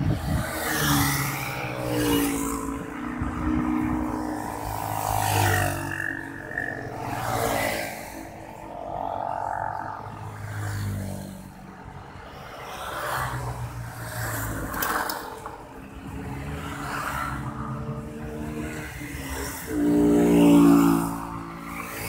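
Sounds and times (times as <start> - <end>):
cars and motorbikes passing: 0.0 - 22.0.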